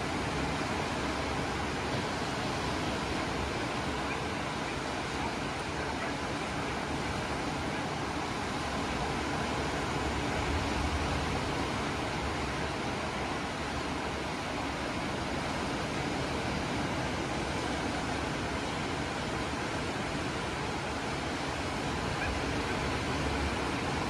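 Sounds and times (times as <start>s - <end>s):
waves breaking: 0.0s - 24.0s.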